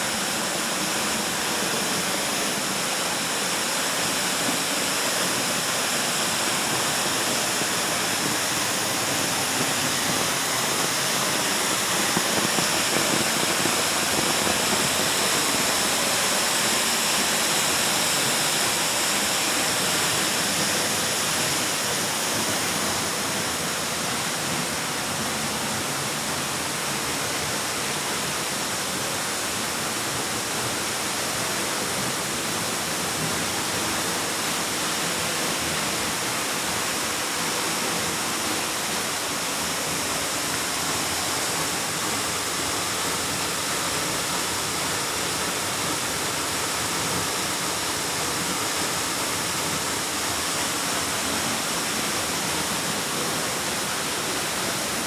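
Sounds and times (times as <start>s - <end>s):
waterfall rushing into a cave: 0.0s - 55.0s.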